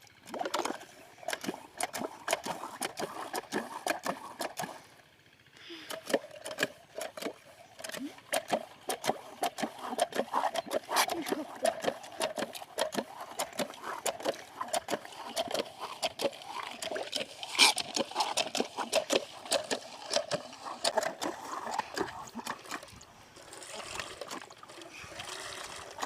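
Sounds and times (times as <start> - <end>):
water splashing and trickling: 0.0 - 4.9, 5.9 - 26.0.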